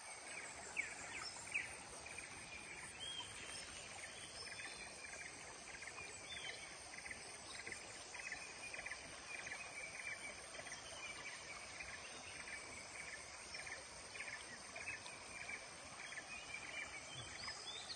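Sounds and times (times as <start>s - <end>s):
steady background hiss: 0.0s - 17.9s.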